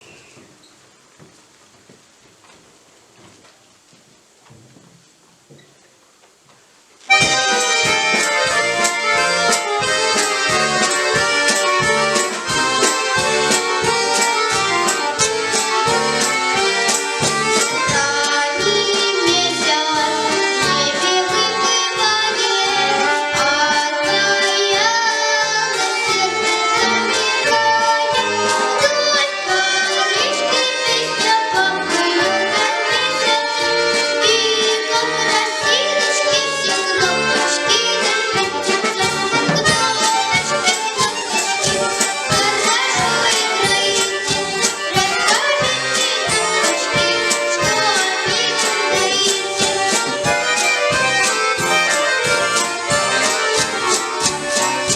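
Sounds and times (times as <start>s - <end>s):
accordion ensemble playing lively tune: 7.1s - 54.9s.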